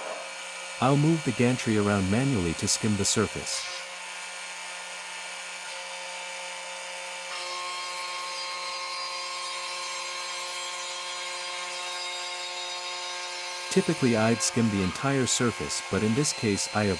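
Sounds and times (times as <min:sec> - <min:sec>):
router whining while cutting wood: 0:00.0 - 0:16.9.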